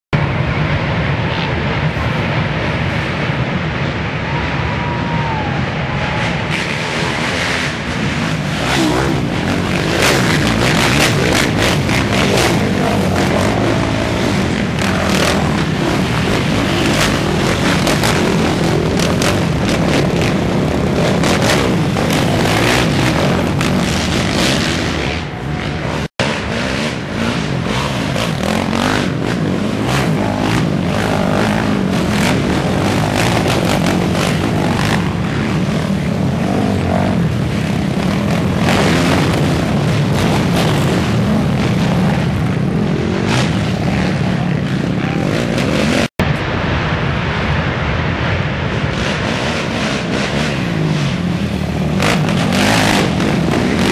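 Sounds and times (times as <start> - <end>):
quad engines revving: 5.0 - 46.3, 48.8 - 53.9.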